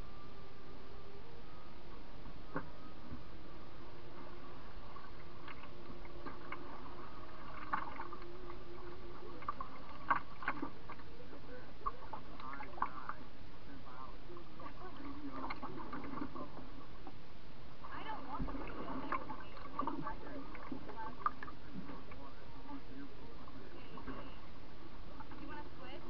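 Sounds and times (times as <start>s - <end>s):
steady water hiss: 2.5s - 26.0s
water gurgling against hull: 4.0s - 26.0s.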